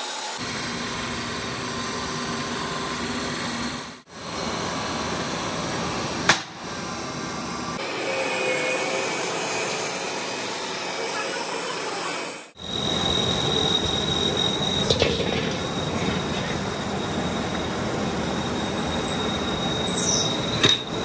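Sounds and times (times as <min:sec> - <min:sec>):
metal-cutting machine running: 0:00.0 - 0:21.0.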